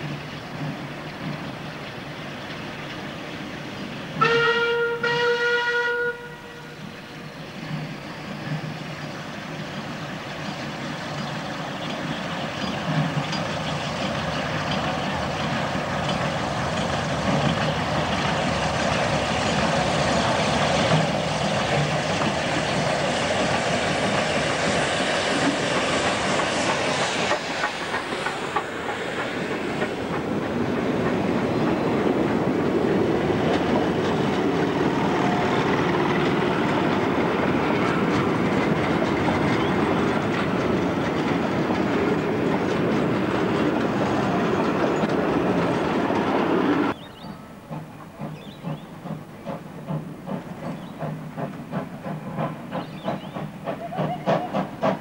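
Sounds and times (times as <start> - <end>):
train wheels clicking over rail joints: 0.0 - 4.8, 7.4 - 55.0
steam locomotive passing: 0.0 - 55.0.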